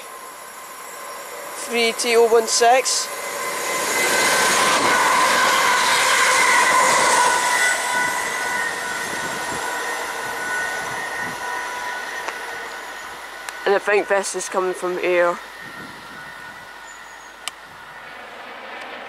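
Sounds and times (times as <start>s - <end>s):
steady high whine: 0.0s - 19.0s
train passing at speed: 0.0s - 19.0s.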